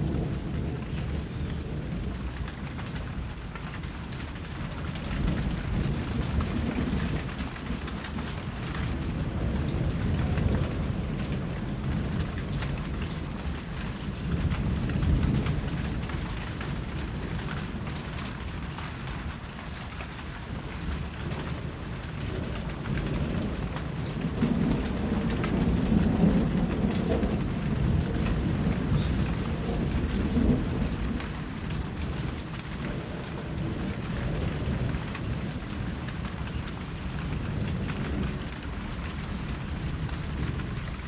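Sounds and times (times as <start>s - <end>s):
steady rain: 0.0s - 41.0s
thunder rumbling: 0.0s - 41.0s.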